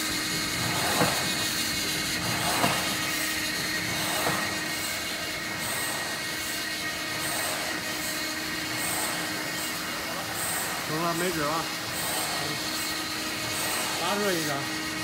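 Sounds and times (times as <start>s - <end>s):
die-cutter press humming: 0.0s - 15.0s.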